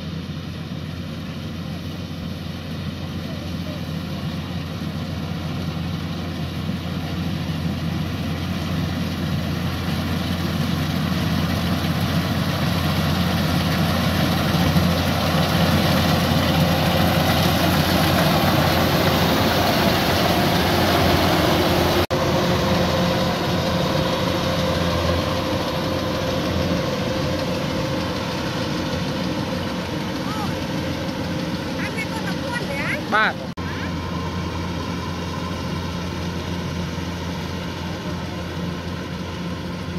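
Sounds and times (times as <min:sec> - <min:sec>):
combine harvester engine hum: 0:00.0 - 0:39.9
threshing machinery noise: 0:00.1 - 0:39.9.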